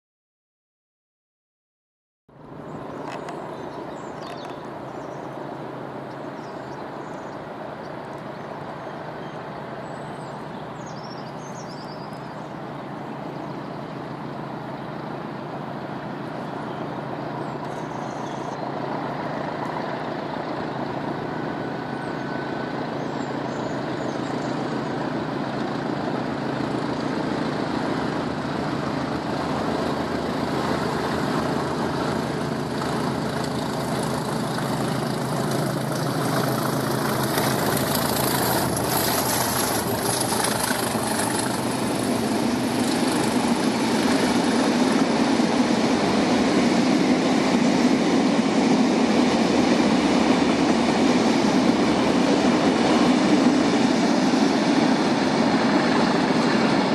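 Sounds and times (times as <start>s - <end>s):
diesel locomotive engines running: 2.3s - 56.9s.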